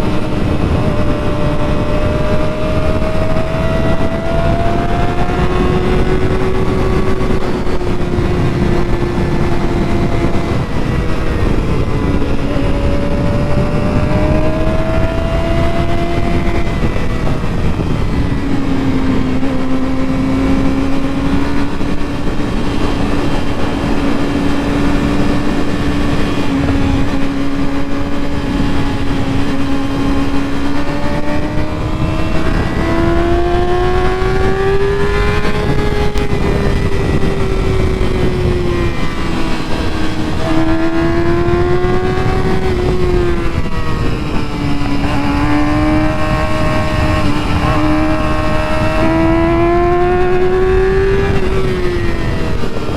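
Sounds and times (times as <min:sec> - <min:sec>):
motorcycle engine running: 0:00.0 - 0:52.9
wind noise: 0:00.0 - 0:52.9.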